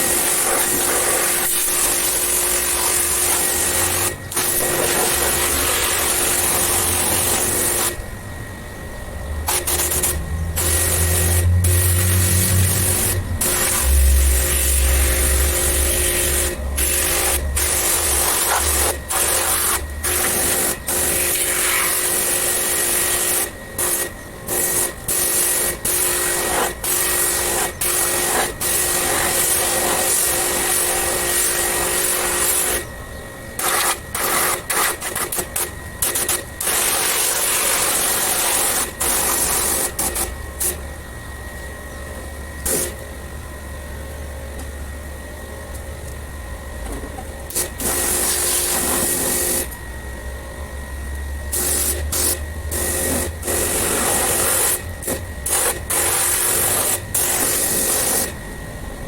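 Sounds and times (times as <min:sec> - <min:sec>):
pressure washer jet hiss: 0:00.0 - 0:08.0, 0:09.5 - 0:32.8, 0:33.6 - 0:40.8, 0:42.6 - 0:43.0, 0:47.5 - 0:49.7, 0:51.5 - 0:58.3
motor hum: 0:00.0 - 0:59.0.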